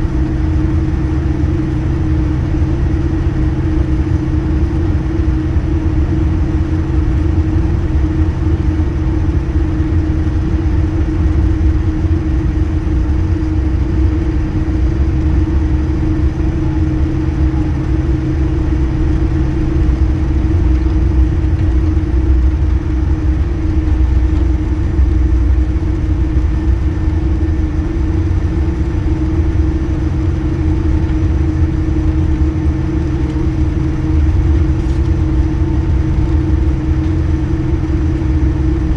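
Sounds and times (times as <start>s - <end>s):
airliner engine drone: 0.0s - 38.9s.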